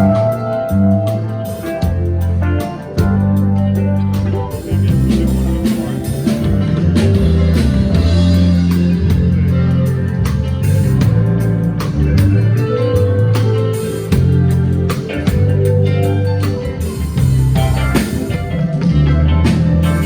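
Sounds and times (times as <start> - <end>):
drum kit hits: 0.0 - 18.9
bass guitar low notes: 0.0 - 20.0.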